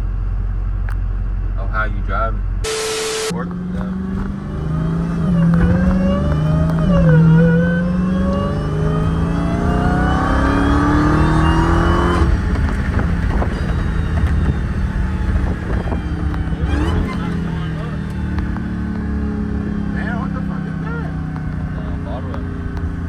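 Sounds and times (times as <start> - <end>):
car engine accelerating: 2.6 - 23.0.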